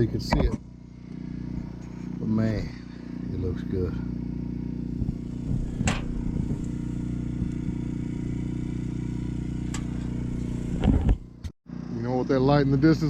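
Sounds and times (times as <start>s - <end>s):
engine idling: 0.0s - 11.5s.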